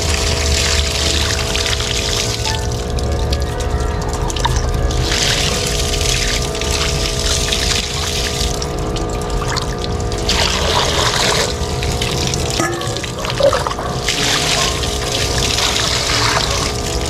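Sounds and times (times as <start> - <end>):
steady low hum: 0.0 - 17.0
water running through mesh net: 0.0 - 17.0
water splashing onto wet ground: 0.0 - 17.0.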